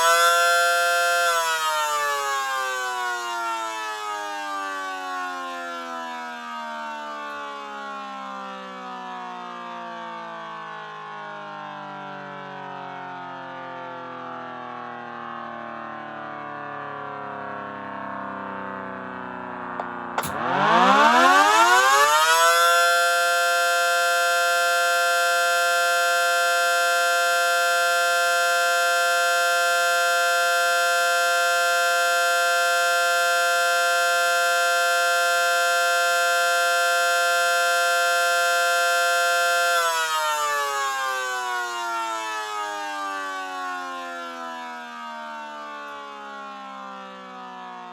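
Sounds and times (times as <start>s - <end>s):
mechanical siren wailing: 0.0s - 47.9s.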